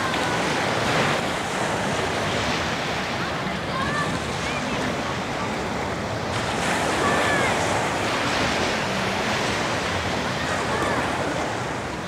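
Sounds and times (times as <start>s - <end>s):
surf waves washing on sand: 0.0s - 12.0s.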